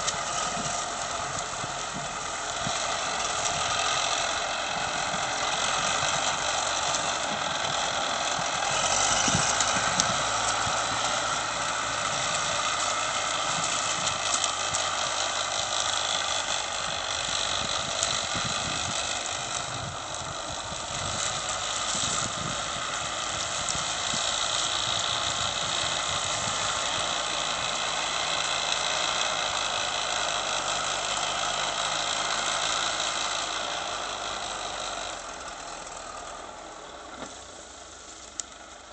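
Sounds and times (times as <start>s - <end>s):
wheel loader diesel engine running: 0.0s - 38.9s.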